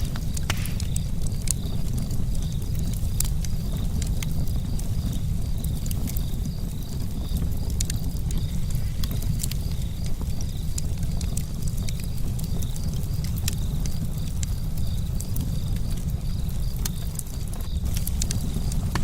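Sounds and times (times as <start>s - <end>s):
campfire crackling and popping: 0.0s - 19.0s
low rumble of flames: 0.0s - 19.0s.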